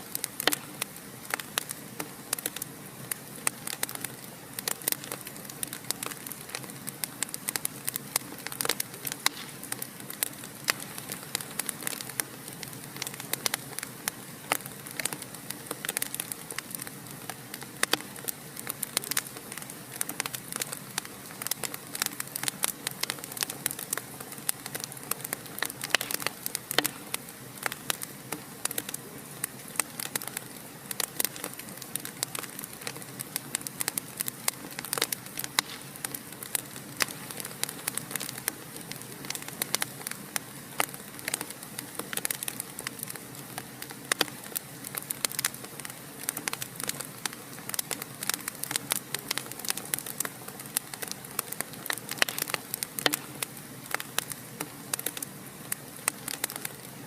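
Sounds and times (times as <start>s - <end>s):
fire crackling in fireplace: 0.0s - 57.0s
hiss of burning: 0.0s - 57.0s.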